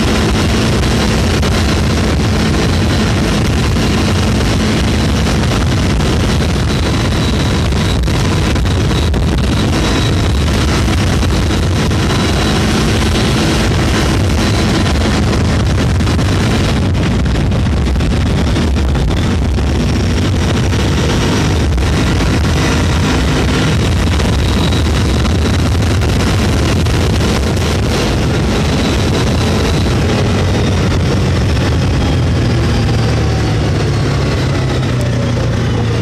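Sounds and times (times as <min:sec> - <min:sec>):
vehicle engine running: 0:00.0 - 0:36.0
wind buffeting microphone: 0:00.0 - 0:36.0.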